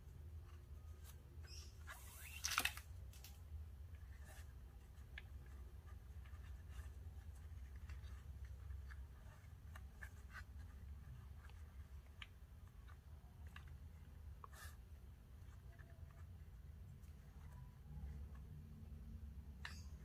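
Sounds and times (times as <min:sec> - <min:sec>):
cord rustling through fingers: 0:00.0 - 0:20.0
low steady hum: 0:00.0 - 0:20.0
light clicks and scrapes: 0:00.4 - 0:20.0.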